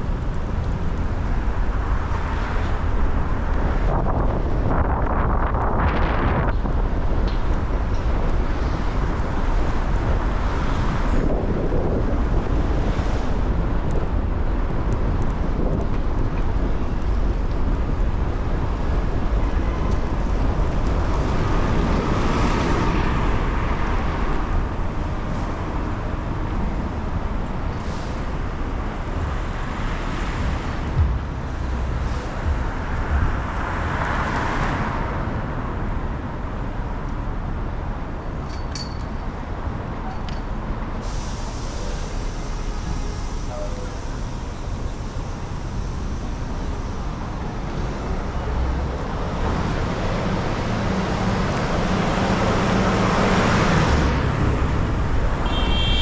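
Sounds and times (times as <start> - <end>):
tyre hiss of passing traffic: 0.0 - 38.4, 39.3 - 56.0
road rumble: 0.0 - 56.0
wind noise on microphone: 0.0 - 56.0.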